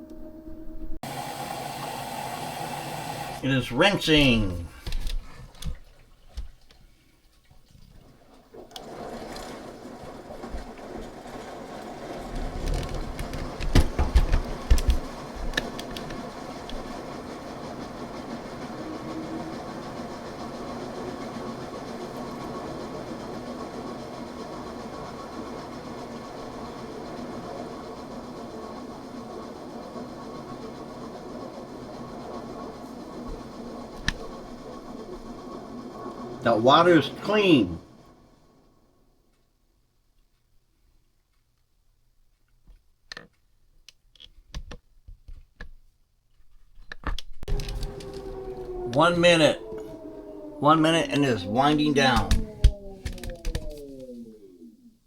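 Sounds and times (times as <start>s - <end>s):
washing machine drum humming: 0.0s - 6.7s, 8.0s - 38.5s, 47.5s - 55.0s.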